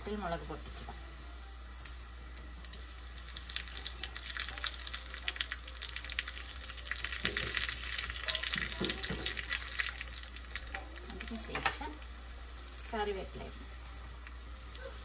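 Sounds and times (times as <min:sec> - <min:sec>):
shallots sizzling in oil: 0:00.0 - 0:15.0.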